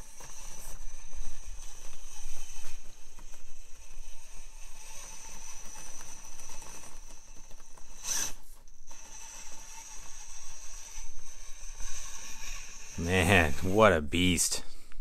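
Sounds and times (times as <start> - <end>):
rc motor high whine: 0.0 - 14.5.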